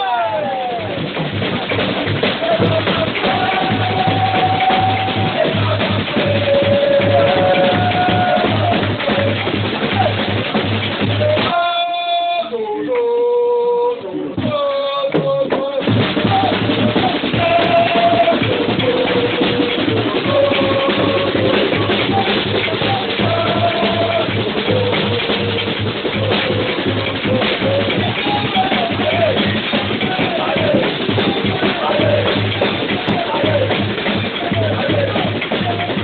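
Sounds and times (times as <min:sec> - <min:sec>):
large drums beaten in rhythm: 0:00.0 - 0:12.4, 0:14.4 - 0:36.0
people singing along: 0:00.0 - 0:36.0.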